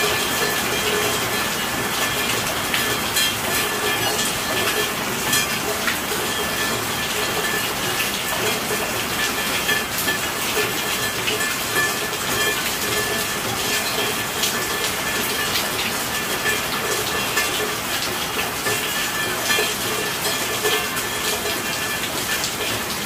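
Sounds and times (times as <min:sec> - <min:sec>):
rain hissing: 0:00.0 - 0:23.0
raindrops pattering on a surface: 0:00.0 - 0:23.0.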